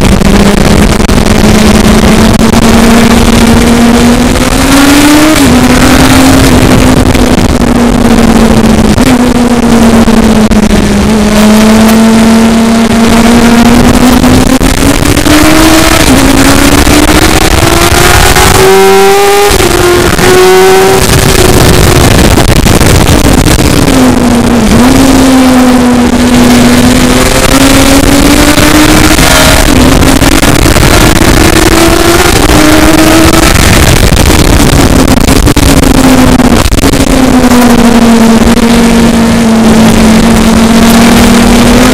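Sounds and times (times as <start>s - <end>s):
steady rushing noise: 0.0s - 41.9s
vehicle engine revving: 0.0s - 41.9s.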